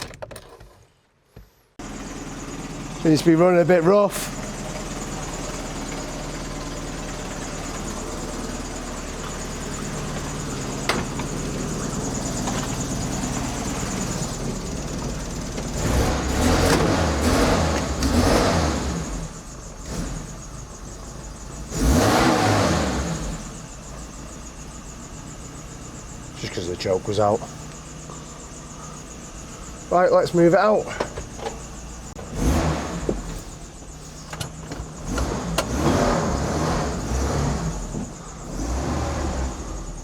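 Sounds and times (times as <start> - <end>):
car engine idling and revving: 1.4 - 40.0.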